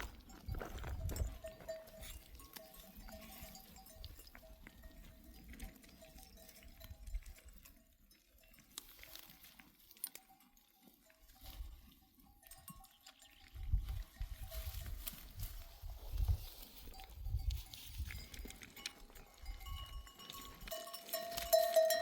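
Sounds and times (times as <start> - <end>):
flock of sheep and goats grazing: 0.0 - 22.0.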